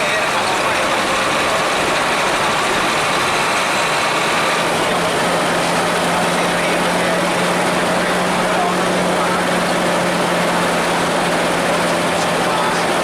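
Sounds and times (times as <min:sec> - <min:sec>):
bus diesel engine rumbling: 0:00.0 - 0:13.0
road and cabin noise: 0:00.0 - 0:13.0.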